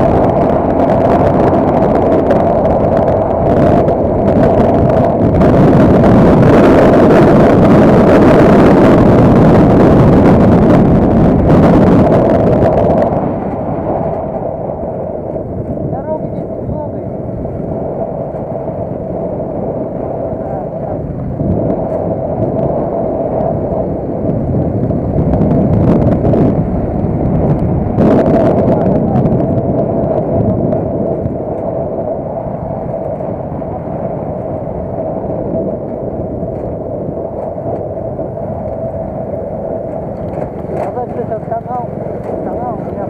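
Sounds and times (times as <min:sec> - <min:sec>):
constant whine: 0:00.0 - 0:43.0.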